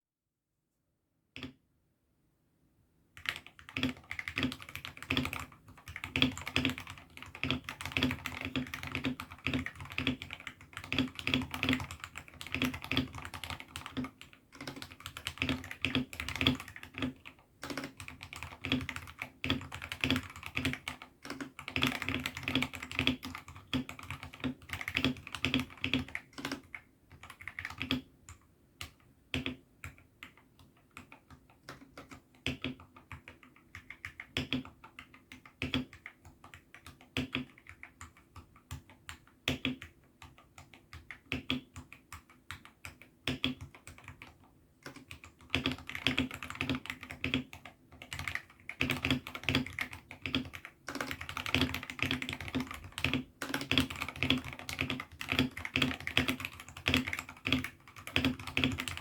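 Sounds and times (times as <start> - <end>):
mechanical keyboard typing: 3.2 - 59.0.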